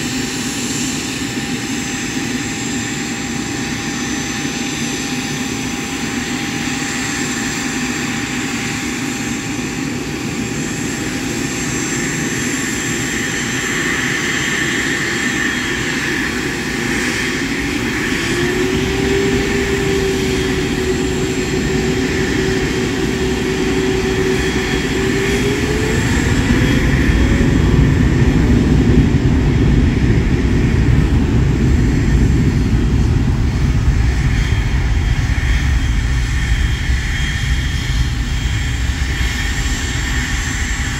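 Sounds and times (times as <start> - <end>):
jet engines whining and rumbling: 0.0 - 40.9.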